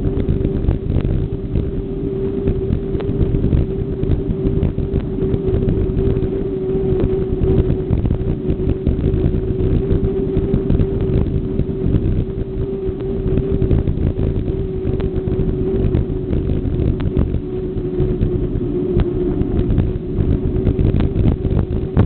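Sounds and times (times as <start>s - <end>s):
steady mid-pitched hum: 0.0s - 22.0s
wind buffeting microphone: 0.0s - 22.0s.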